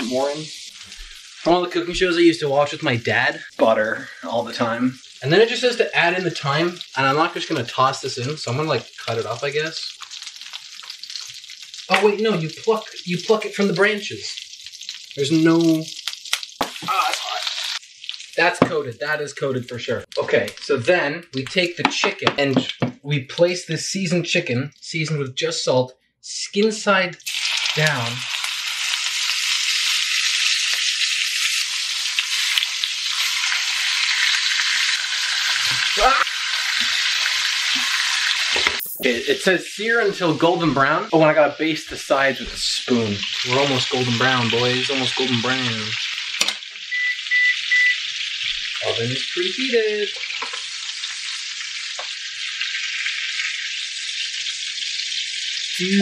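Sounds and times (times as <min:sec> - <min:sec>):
chicken sizzling in a frying pan: 0:00.0 - 0:03.4, 0:04.0 - 0:20.8, 0:27.2 - 0:56.0.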